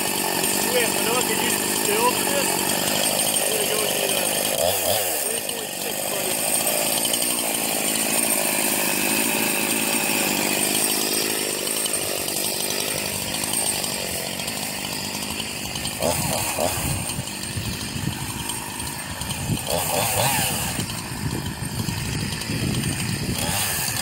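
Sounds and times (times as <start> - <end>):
chainsaw engine running: 0.0 - 24.0.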